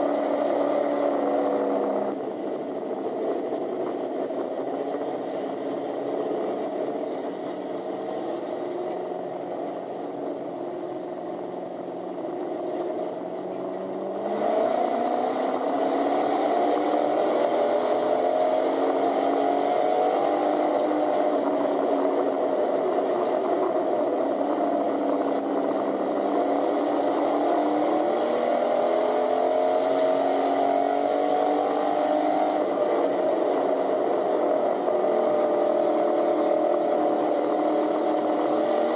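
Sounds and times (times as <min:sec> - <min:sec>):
race car engine accelerating: 0:00.0 - 0:10.5, 0:12.0 - 0:38.9.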